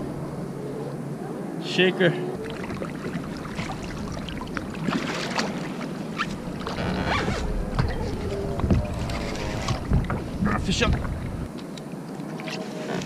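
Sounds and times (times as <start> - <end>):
low rumble of fishing reel: 2.4 - 13.0
water slapping against kayak: 2.4 - 13.0.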